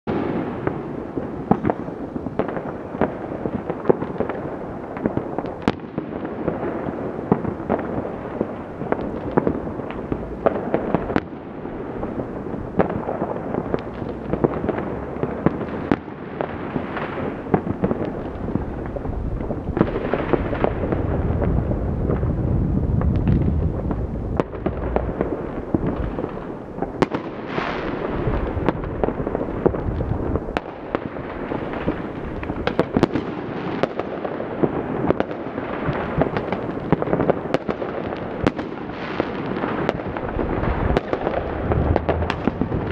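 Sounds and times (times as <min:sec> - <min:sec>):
fireworks and firecrackers banging: 0:00.0 - 0:42.9
low rumble of fireworks: 0:00.0 - 0:42.9.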